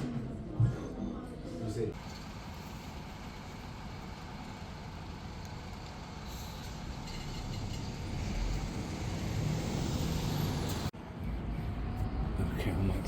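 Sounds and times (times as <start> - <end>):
road traffic rumble: 1.9 - 13.0.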